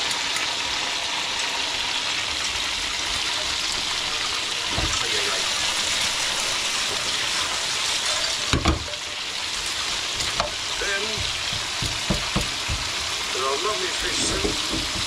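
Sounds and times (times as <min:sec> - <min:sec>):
burgers sizzling in a pan: 0:00.0 - 0:15.0.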